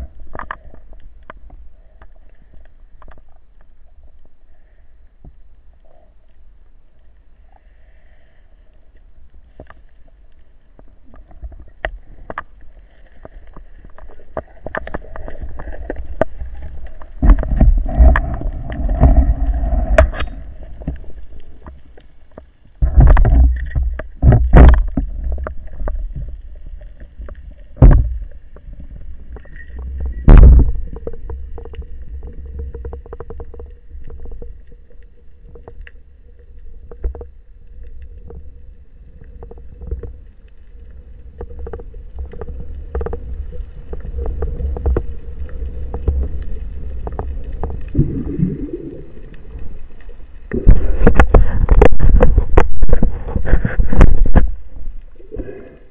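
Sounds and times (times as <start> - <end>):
faint steady hum: 0.0 - 55.9
underwater rumbling water flow: 0.0 - 55.9.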